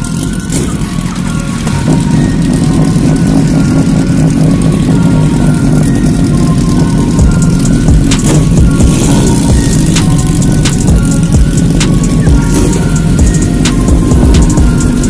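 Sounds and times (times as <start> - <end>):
motorcycles idling: 0.0 - 15.0
music: 0.0 - 15.0.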